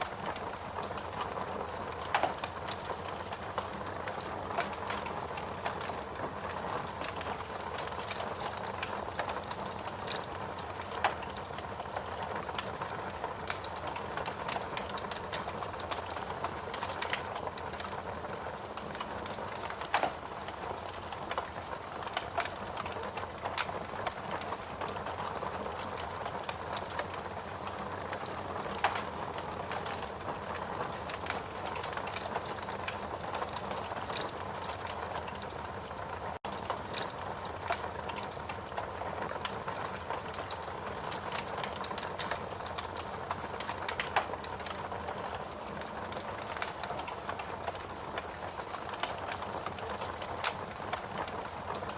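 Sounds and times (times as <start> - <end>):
log fire crackling: 0.0 - 51.9.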